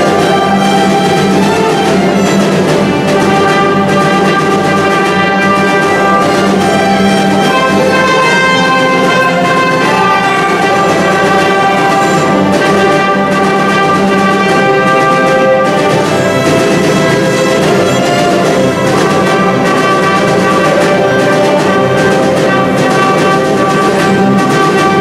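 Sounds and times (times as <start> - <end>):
symphony orchestra playing: 0.0 - 25.0.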